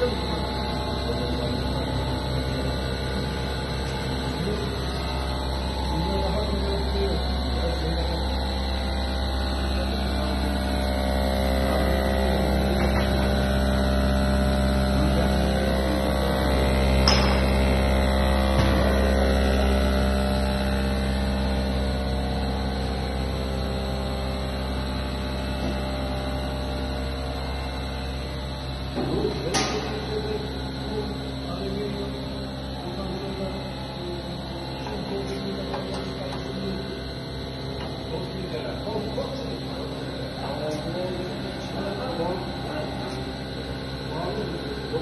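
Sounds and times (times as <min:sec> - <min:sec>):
electric motor hum: 0:00.0 - 0:45.0.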